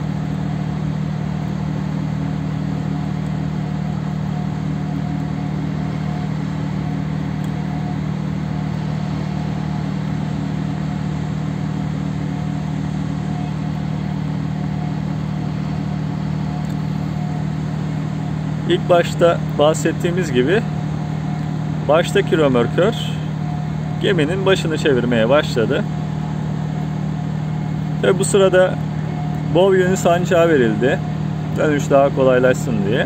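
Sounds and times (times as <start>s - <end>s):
ship diesel engines droning: 0.0s - 33.0s.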